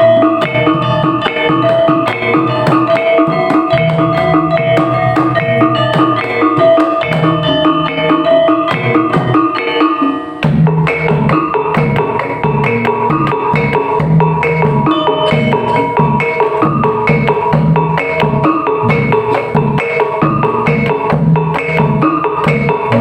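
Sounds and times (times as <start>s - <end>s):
drums and tuned percussion: 0.0s - 23.0s.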